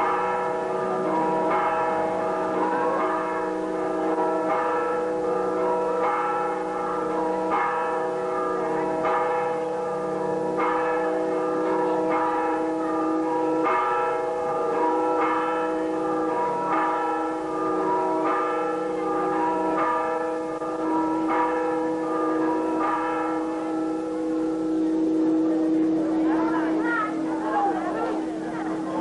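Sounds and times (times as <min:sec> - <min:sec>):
church bells ringing: 0:00.0 - 0:29.0.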